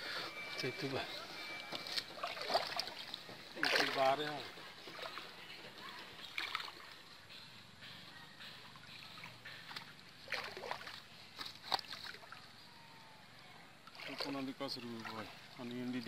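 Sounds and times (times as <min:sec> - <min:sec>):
water sloshing and splashing: 0:00.5 - 0:07.2, 0:08.7 - 0:12.7, 0:13.8 - 0:16.0.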